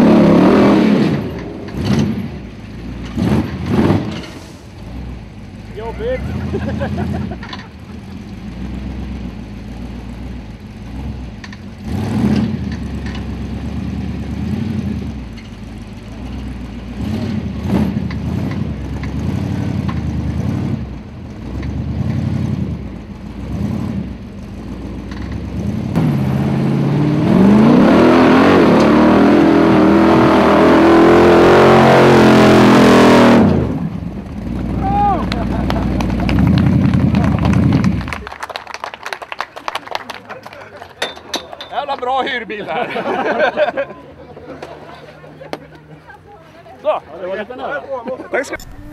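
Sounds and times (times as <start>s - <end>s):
buggy engine revving: 0.0s - 41.0s.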